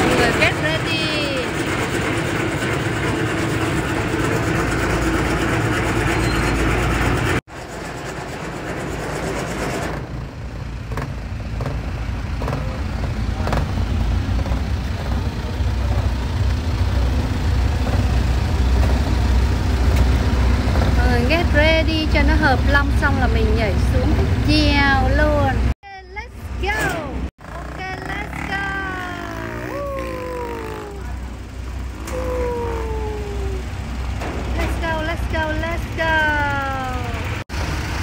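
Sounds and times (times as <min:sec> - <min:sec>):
ship engines rumbling: 0:00.0 - 0:38.0.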